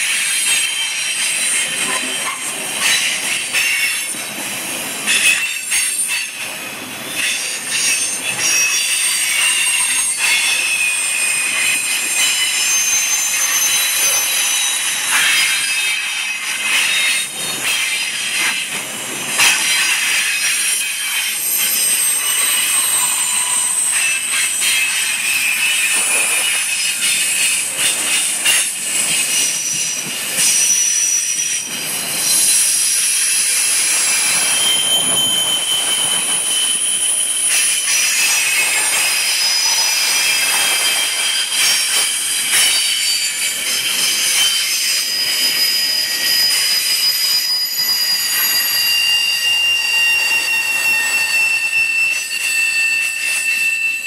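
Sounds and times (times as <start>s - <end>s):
freight train rolling: 0.0s - 54.0s
train wheels squealing: 0.0s - 54.0s.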